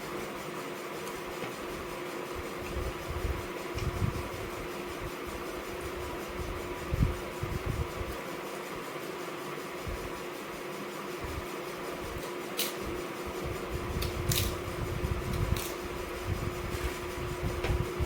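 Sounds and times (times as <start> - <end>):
steady fan-like hum: 0.0 - 18.0.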